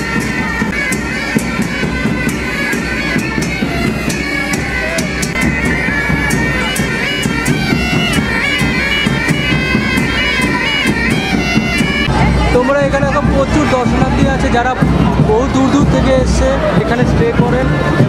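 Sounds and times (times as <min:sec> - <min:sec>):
bagpipes playing a marching tune: 0:00.0 - 0:18.0
sharp drum beat: 0:00.0 - 0:18.0.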